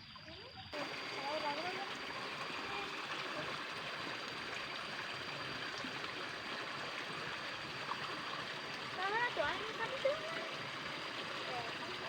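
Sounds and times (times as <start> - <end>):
water flowing along a ditch: 0.1 - 12.0.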